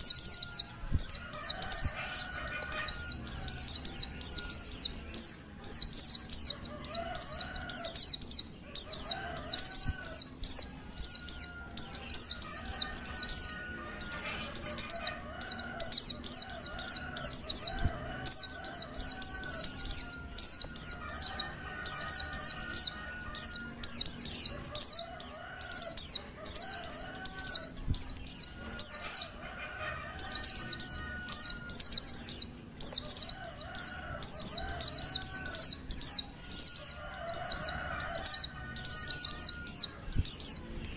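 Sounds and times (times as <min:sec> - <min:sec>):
bird chirping high and thin: 0:00.0 - 0:29.4, 0:30.1 - 0:40.7
low bird warbling: 0:00.0 - 0:40.9.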